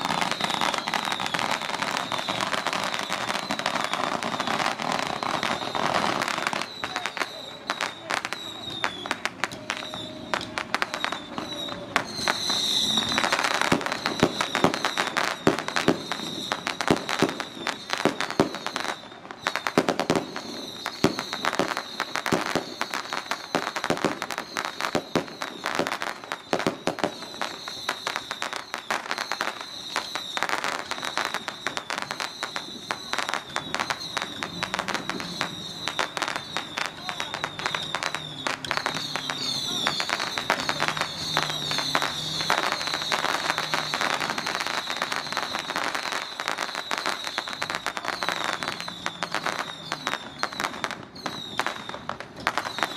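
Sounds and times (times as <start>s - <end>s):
firecrackers crackling: 0.0s - 52.9s.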